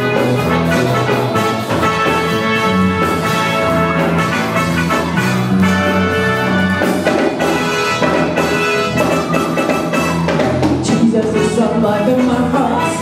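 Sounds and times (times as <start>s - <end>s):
drum kit beat: 0.0s - 13.0s
gospel band playing: 0.0s - 13.0s.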